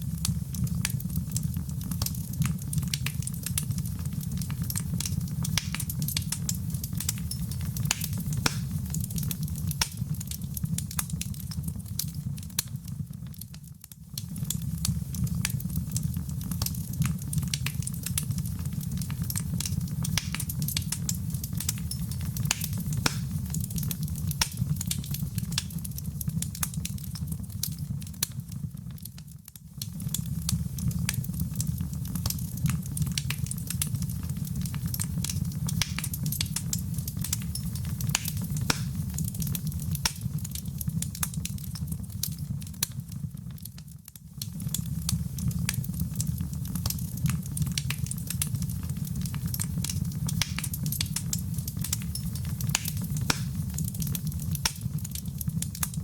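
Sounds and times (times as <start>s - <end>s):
fire rumbling: 0.0s - 56.0s
wood crackling and popping: 0.0s - 56.0s.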